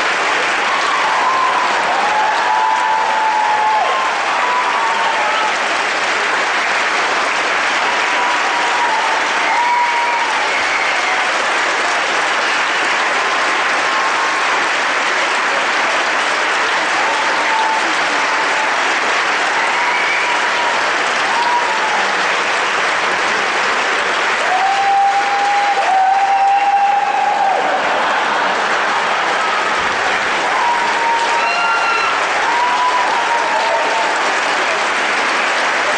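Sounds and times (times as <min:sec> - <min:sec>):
audience applauding: 0:00.0 - 0:35.9.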